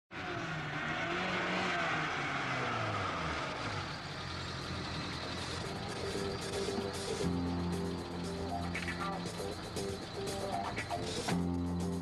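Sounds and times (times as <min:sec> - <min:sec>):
car engine slowing: 0:00.1 - 0:12.0.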